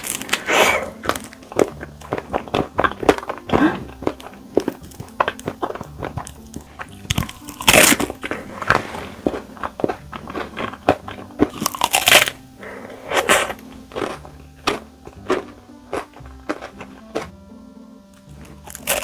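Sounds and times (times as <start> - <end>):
crunchy eating: 0.0 - 19.0
soft background music: 0.0 - 19.0.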